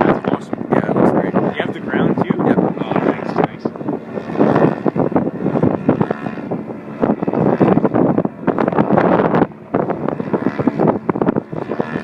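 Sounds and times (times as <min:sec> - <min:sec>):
model plane engine drone: 0:00.0 - 0:12.0
wind buffeting microphone: 0:00.0 - 0:12.0.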